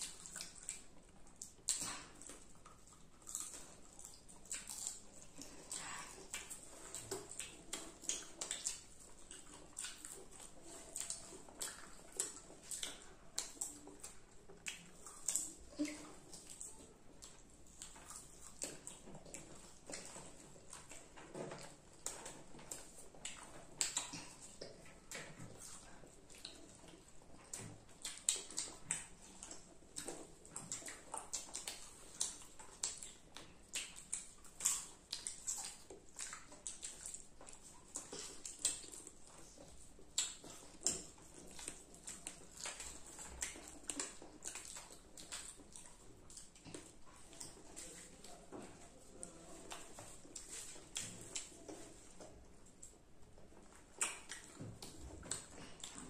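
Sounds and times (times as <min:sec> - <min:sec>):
wet lip-smacking clicks: 0:00.0 - 0:48.1, 0:53.8 - 0:56.0
children chewing crunchy food: 0:00.0 - 0:56.0.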